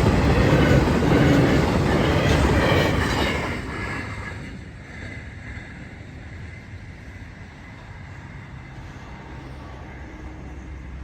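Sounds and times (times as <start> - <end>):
freight train rumble: 0.0 - 11.0.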